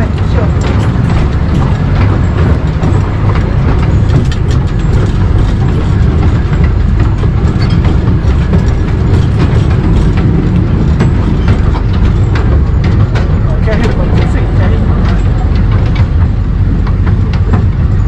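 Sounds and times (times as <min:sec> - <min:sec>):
train rumbling: 0:00.0 - 0:18.0
wheels clicking on rails: 0:00.0 - 0:18.0.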